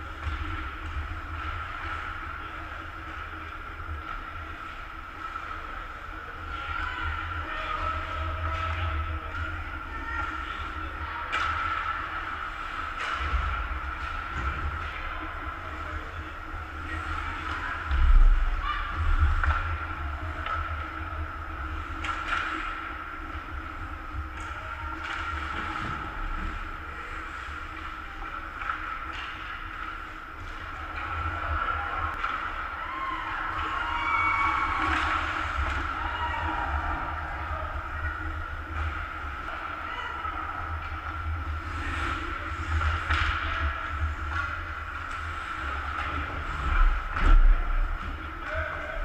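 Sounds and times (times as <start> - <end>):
ice rink rumble and hum: 0.0 - 49.0.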